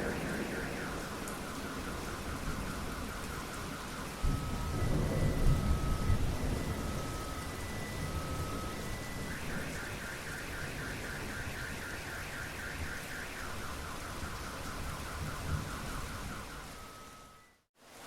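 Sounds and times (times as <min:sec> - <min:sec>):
car alarm: 0:00.0 - 0:17.7
steady rain: 0:00.0 - 0:18.0.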